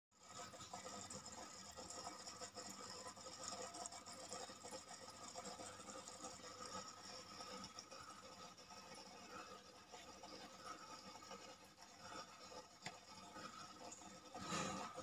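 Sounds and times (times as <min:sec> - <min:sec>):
aquarium filter pump humming: 0:00.2 - 0:15.0.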